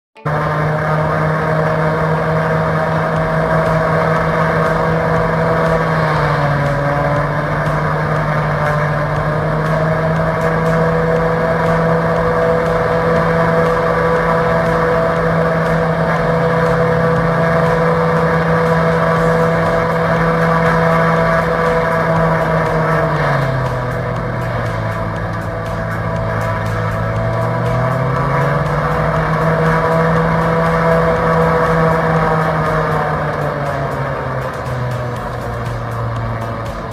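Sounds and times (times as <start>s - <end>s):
turboprop engines droning: 0.2s - 36.9s.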